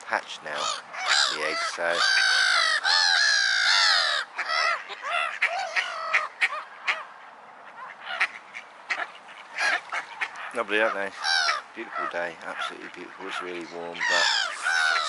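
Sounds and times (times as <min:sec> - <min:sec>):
waterbirds calling harshly: 0:00.0 - 0:15.0.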